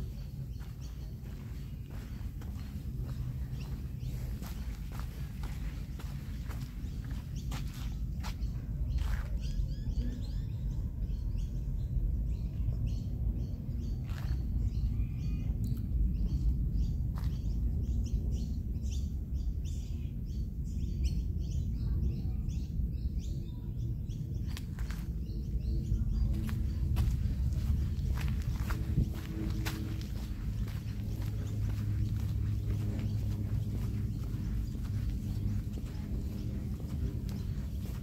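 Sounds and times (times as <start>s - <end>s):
birds chirping: 0.0s - 38.0s
steady low rumble: 0.0s - 38.0s.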